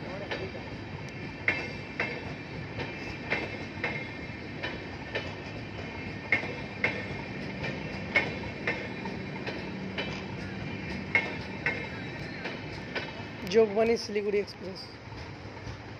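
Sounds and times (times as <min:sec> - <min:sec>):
train wheels rumbling: 0:00.0 - 0:15.9
wheels clacking over rail joints: 0:00.0 - 0:15.9.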